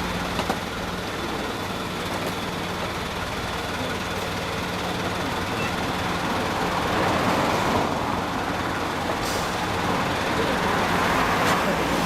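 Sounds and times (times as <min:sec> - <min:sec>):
vehicle engine and traffic: 0:00.0 - 0:12.0.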